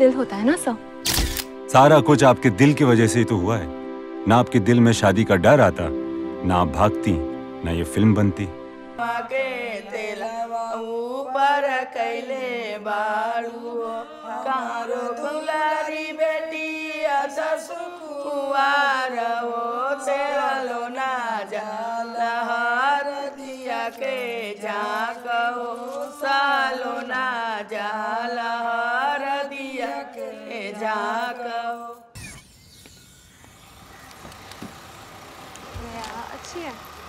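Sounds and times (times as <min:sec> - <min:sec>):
person singing chant-like lines: 0:01.7 - 0:32.4.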